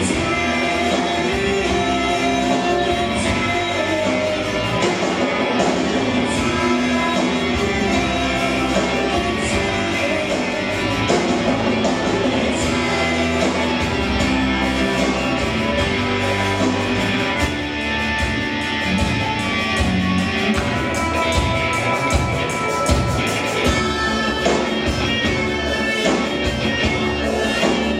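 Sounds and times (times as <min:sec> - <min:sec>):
rock band playing live: 0:00.0 - 0:27.9.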